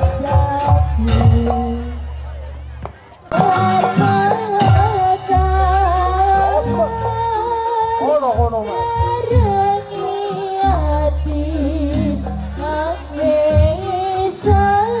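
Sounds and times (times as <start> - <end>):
person singing: 0.0 - 2.2, 3.3 - 15.0
drums with pulsing bass: 0.0 - 15.0
percussion beat: 0.0 - 15.0.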